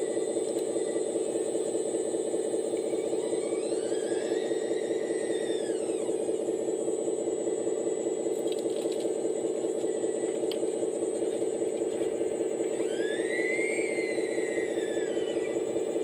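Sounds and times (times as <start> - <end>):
machine whine: 0.0 - 16.0
model excavator pulsing buzz: 0.0 - 16.0.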